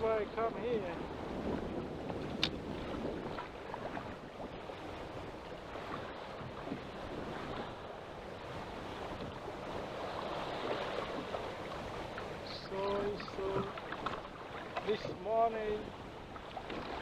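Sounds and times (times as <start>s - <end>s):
waves splashing around boat: 0.0s - 17.0s
wind buffeting microphone: 0.0s - 17.0s.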